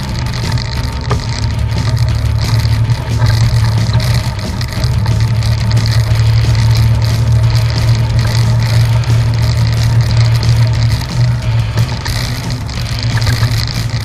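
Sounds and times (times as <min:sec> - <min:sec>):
outboard motor running: 0:00.0 - 0:14.0
water noise: 0:00.0 - 0:14.0.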